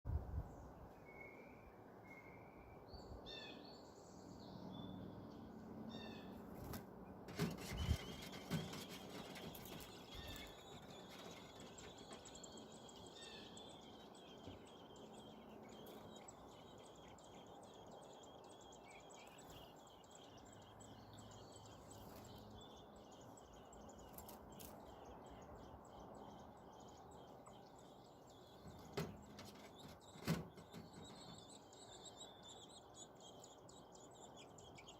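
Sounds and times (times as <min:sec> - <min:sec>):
faint bird chirps: 0:00.6 - 0:06.4, 0:07.6 - 0:34.9.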